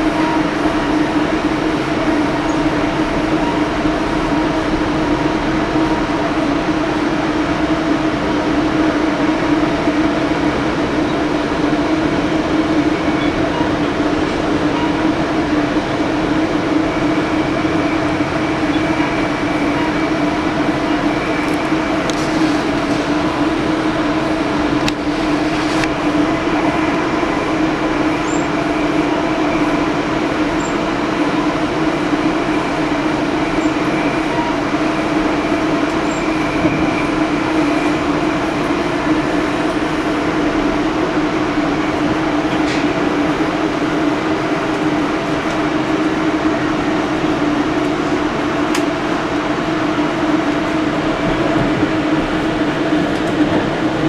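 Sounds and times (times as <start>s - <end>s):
train running with steady hum: 0.0s - 54.0s.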